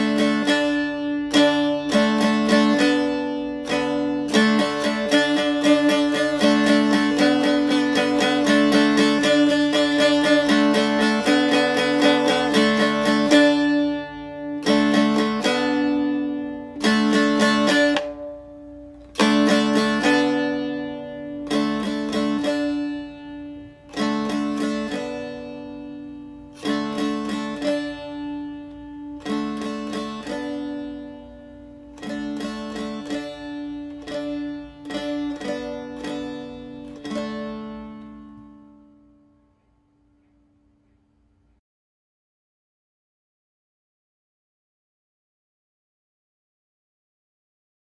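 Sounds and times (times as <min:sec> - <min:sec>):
dulcimer strumming chords: 0:00.0 - 0:41.0.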